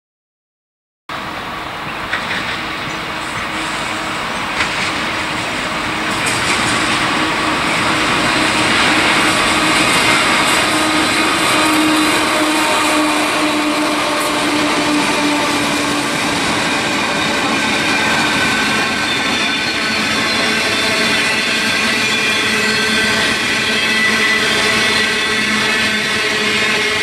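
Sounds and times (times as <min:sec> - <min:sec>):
diesel locomotive engine drone: 0:01.1 - 0:27.0
wagon wheels rumbling on rails: 0:02.1 - 0:27.0.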